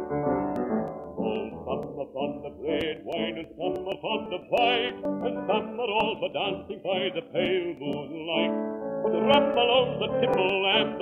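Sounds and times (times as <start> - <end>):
instrumental accompaniment: 0.0 - 11.0
record surface clicks: 0.5 - 8.4, 9.3 - 11.0
man singing a ballad: 1.2 - 11.0.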